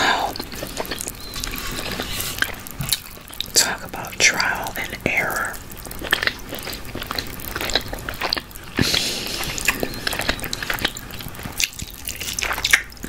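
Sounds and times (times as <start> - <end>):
person biting and chewing: 0.0 - 3.6, 5.8 - 13.0.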